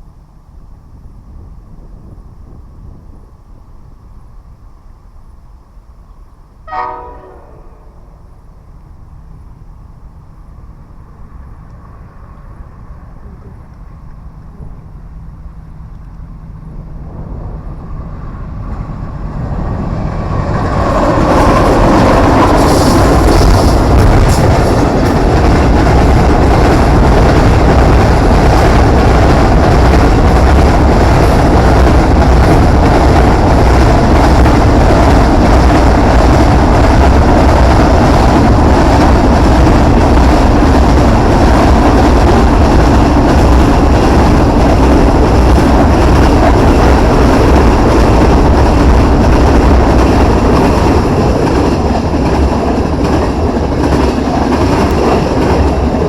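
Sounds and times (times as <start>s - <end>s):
wind rumbling on microphone: 0.0s - 6.6s, 7.7s - 56.0s
freight train rolling past: 0.0s - 56.0s.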